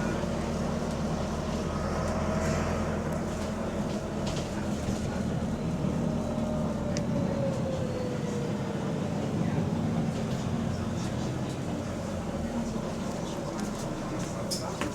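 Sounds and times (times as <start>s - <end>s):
bus engine hum: 0.0s - 14.9s.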